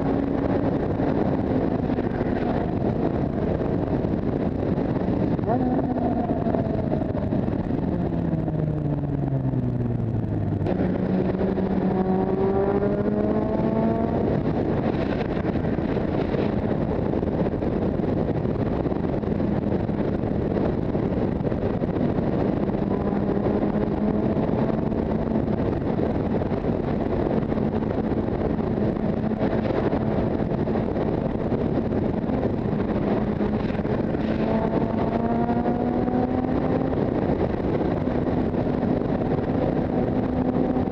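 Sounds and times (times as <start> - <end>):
motorcycle engine: 0.0 - 40.9
wind and road noise: 0.0 - 40.9.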